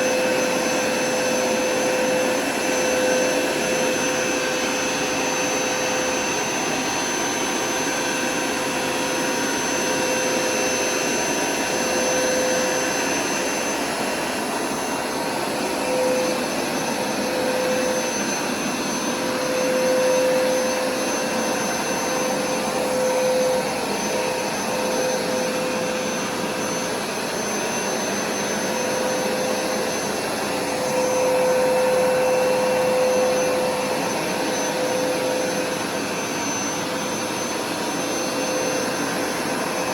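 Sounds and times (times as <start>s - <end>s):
carpet cleaner running: 0.0s - 39.9s.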